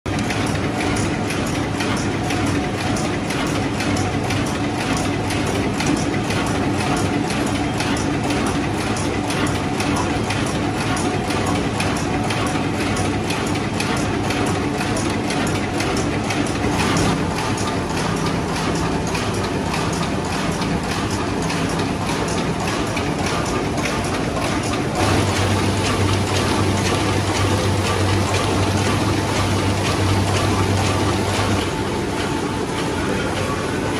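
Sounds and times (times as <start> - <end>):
machine clattering: 0.1 - 33.9
machine hum: 0.1 - 33.9.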